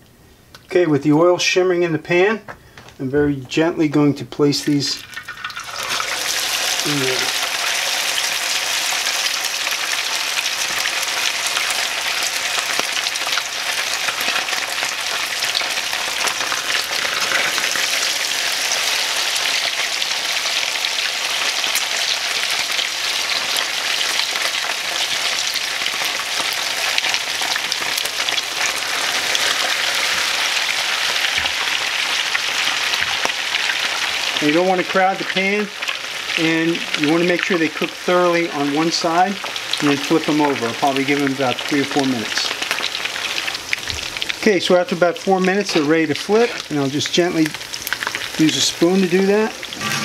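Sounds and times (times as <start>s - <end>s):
fish cakes sizzling in oil: 5.0s - 50.0s.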